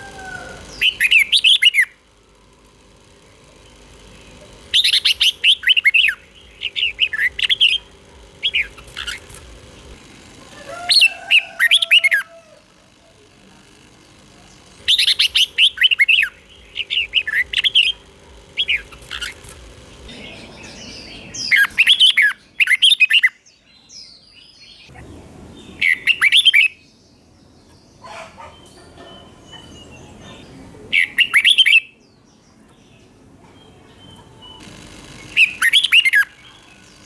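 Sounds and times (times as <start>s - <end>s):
bulbul singing: 0.0s - 32.1s, 32.7s - 37.0s.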